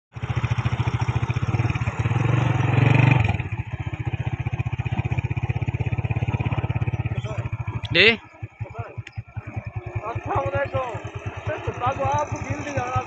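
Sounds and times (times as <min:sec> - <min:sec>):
tractor engine chugging: 0:00.1 - 0:13.0.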